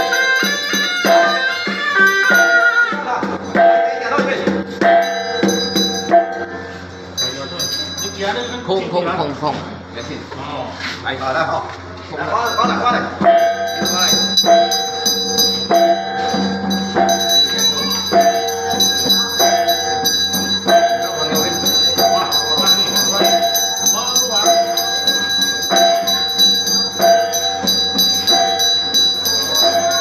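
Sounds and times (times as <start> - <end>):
ritual music with repeated notes: 0.0 - 8.2, 12.5 - 30.0
small bell ringing: 0.0 - 10.3, 12.2 - 30.0.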